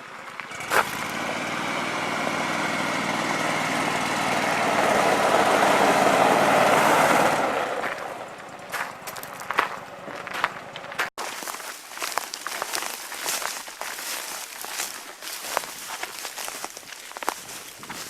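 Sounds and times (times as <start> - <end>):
vehicle engine running: 0.0 - 11.1, 12.6 - 18.0.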